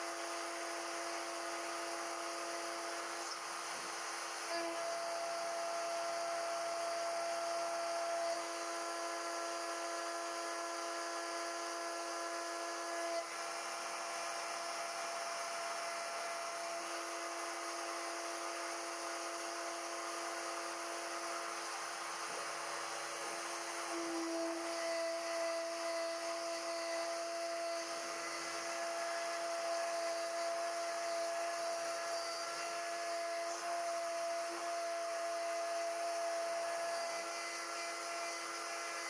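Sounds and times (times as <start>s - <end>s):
router spindle whine milling metal: 0.0s - 39.0s.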